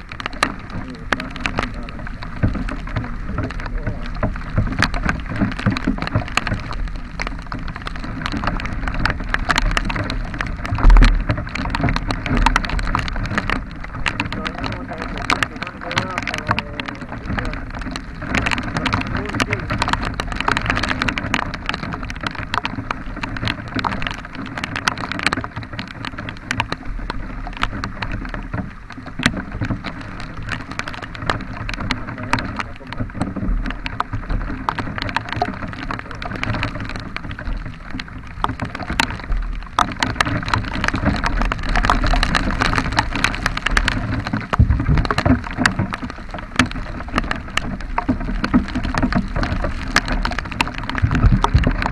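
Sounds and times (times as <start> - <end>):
raindrops hitting microphone: 0.0 - 51.9.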